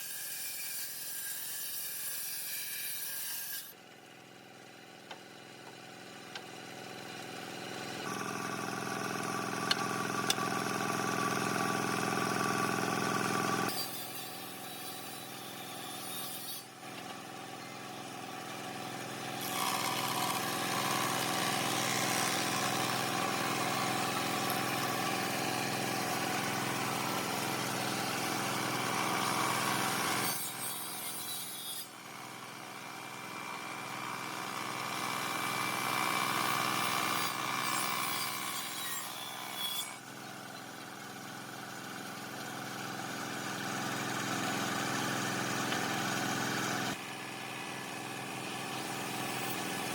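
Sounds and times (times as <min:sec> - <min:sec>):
power tool cutting wood: 0:00.0 - 0:03.8, 0:07.9 - 0:42.1, 0:42.7 - 0:49.9.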